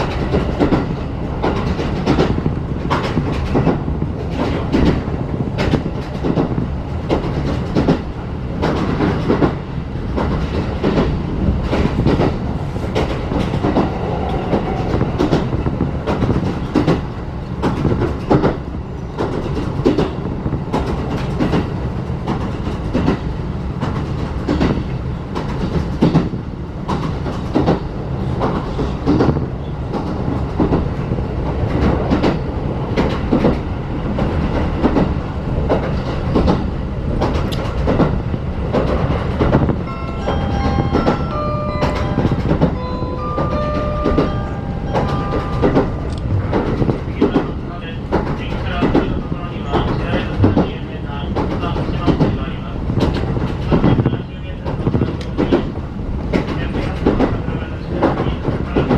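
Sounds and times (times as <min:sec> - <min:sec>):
train coach rumbling on rails: 0:00.0 - 0:58.9.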